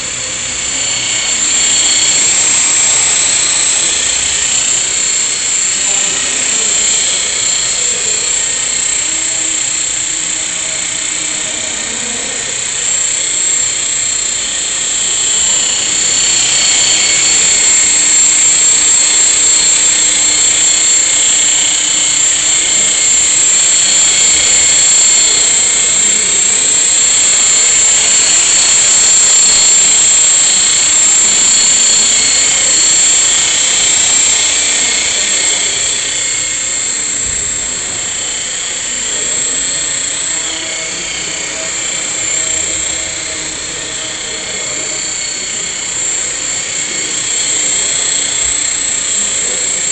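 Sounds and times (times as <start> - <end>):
rc helicopter motor whine: 0.0 - 49.9.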